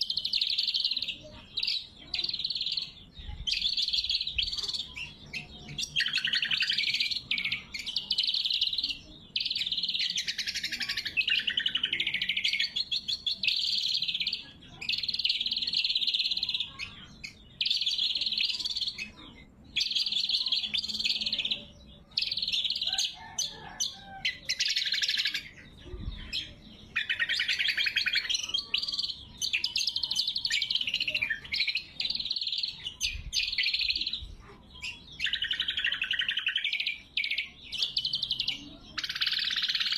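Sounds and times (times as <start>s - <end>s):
bird singing high-pitched phrases: 0.0s - 39.9s.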